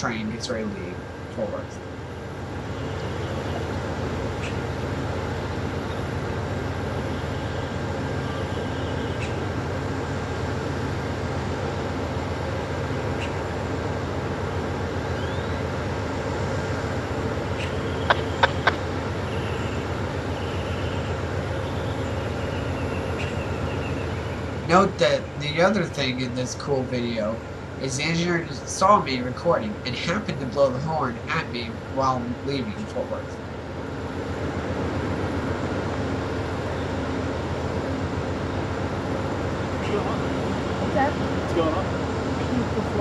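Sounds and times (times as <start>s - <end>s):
diesel locomotive idling: 0.0s - 43.0s.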